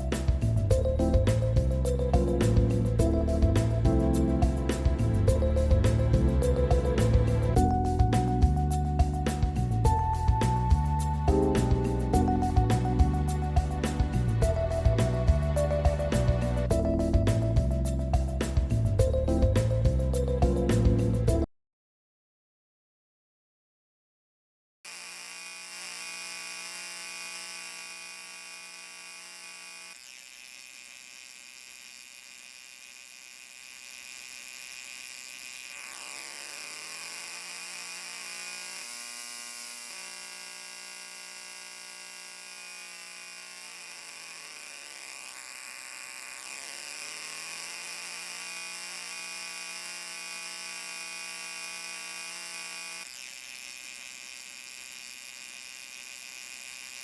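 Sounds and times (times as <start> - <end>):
electric buzz: 0.0 - 21.2, 24.9 - 57.0.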